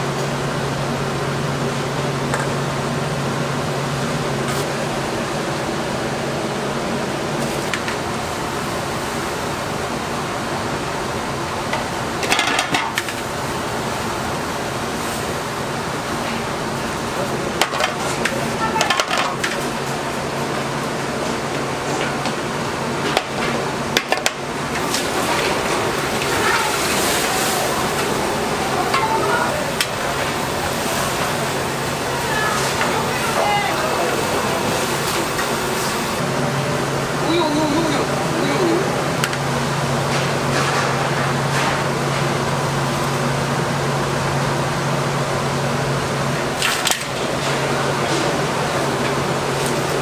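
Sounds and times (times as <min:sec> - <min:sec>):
broth boiling: 0:00.0 - 0:50.0
kitchen equipment humming: 0:00.0 - 0:50.0.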